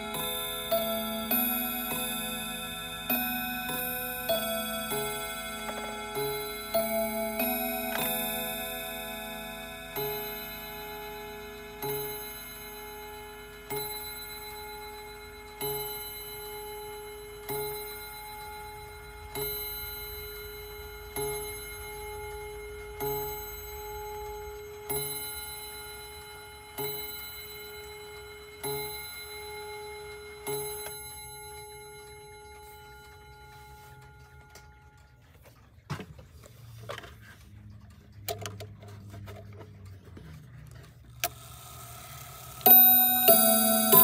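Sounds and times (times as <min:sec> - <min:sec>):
wall clock striking: 0:00.0 - 0:35.0, 0:42.4 - 0:44.0.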